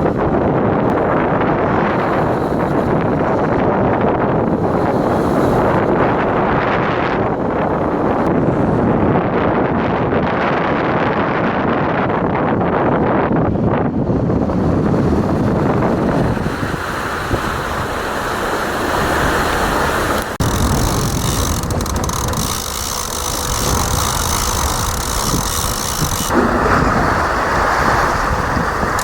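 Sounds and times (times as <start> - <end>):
rush of wind and sea: 0.0 - 29.0
wind buffeting microphone: 0.0 - 29.0.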